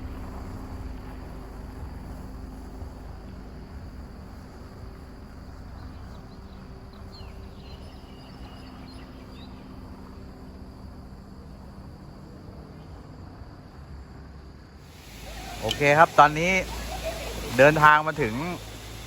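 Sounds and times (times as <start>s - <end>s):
insects chirring: 0.0s - 19.0s
low steady hum: 0.0s - 19.0s.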